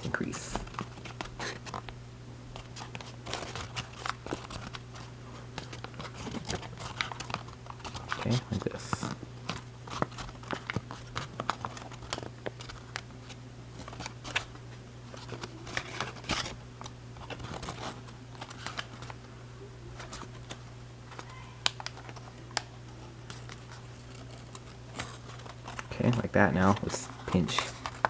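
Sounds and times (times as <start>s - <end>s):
paper crackling and rustling: 0.0s - 19.2s, 19.9s - 28.0s.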